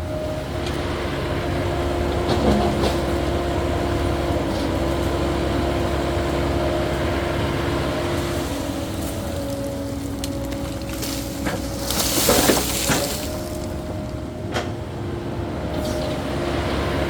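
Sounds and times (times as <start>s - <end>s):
excavator engine whining: 0.0s - 17.0s.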